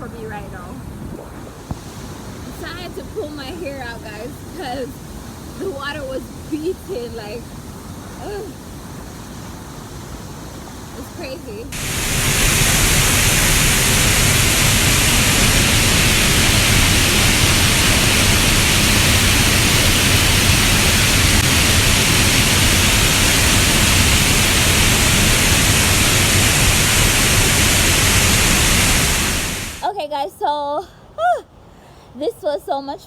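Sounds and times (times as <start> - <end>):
waterfall rushing: 1.6 - 29.9.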